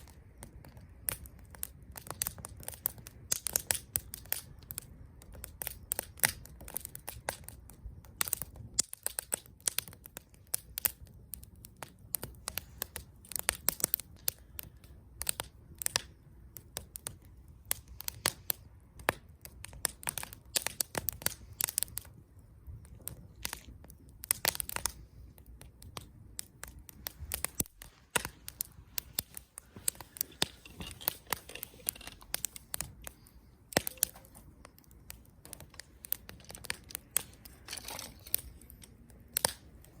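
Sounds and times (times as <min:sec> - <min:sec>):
campfire crackling and popping: 0:00.0 - 0:40.0
low rush of flames: 0:00.0 - 0:40.0.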